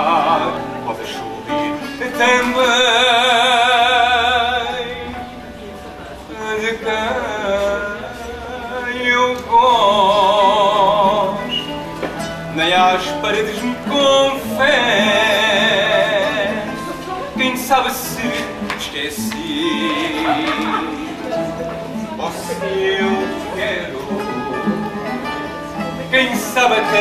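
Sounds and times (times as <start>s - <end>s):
plucked guitar: 0.0s - 27.0s.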